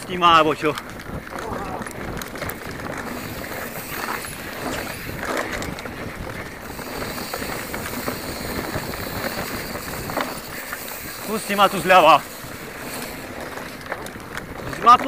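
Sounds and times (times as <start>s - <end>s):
bike rattling over bumps: 0.0s - 15.0s
bike tyres on dirt: 0.0s - 15.0s
wind on microphone: 0.0s - 15.0s.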